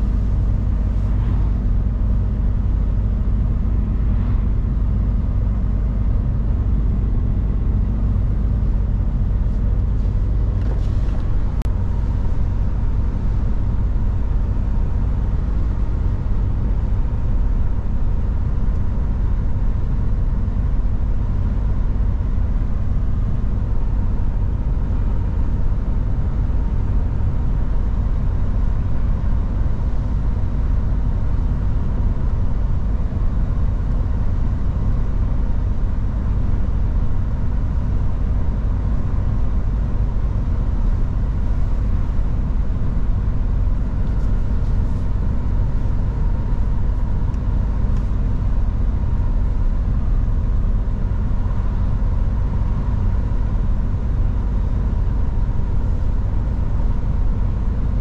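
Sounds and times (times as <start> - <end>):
faint steady whine: 0.0 - 58.0
truck engine and road rumble: 0.0 - 58.0.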